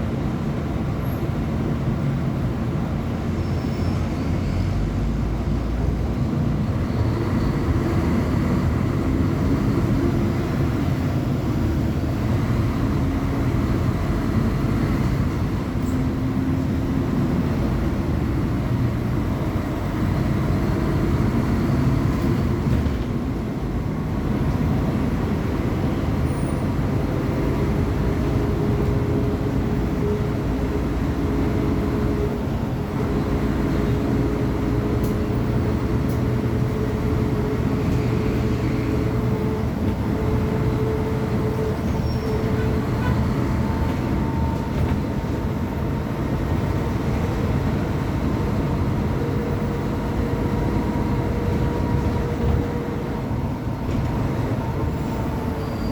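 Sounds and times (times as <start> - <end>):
bus diesel engine droning: 0.0 - 55.9.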